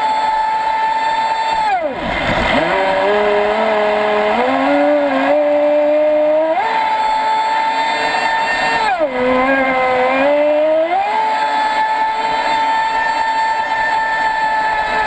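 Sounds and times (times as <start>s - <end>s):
electric motor whining: 0.0s - 15.0s
water rushing along hull: 0.0s - 15.0s.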